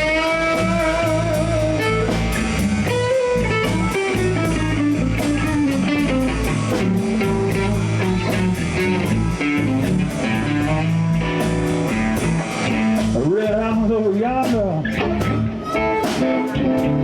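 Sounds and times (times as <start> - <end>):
bass: 0.0 - 17.0
drum kit beat: 0.0 - 17.0
electric guitar: 0.0 - 17.0.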